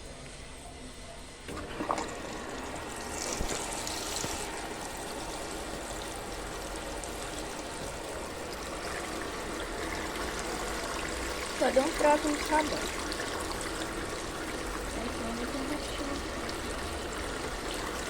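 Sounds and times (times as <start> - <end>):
water running into washing machine: 1.5 - 18.0.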